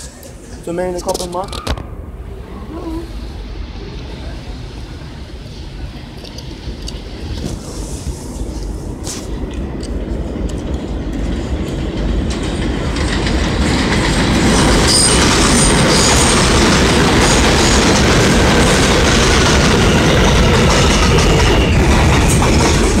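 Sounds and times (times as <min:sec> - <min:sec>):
subway train rumble and wheel clatter: 0:00.0 - 0:23.0.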